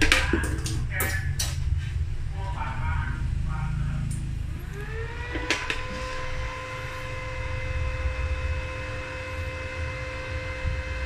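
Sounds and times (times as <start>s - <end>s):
welder cooling fan humming: 0.0s - 11.0s.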